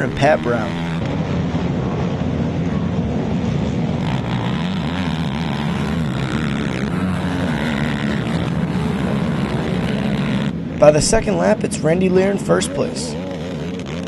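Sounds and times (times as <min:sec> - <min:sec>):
atv engines revving: 0:00.0 - 0:14.0.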